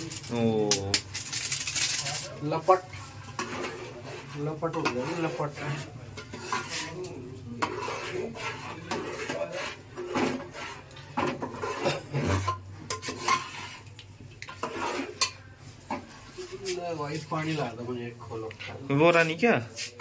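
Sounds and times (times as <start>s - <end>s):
metal spoon scraping pot: 0.9s - 19.9s.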